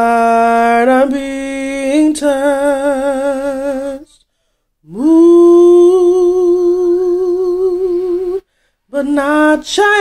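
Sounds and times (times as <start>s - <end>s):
woman singing with vibrato: 0.0s - 4.2s, 4.8s - 10.0s.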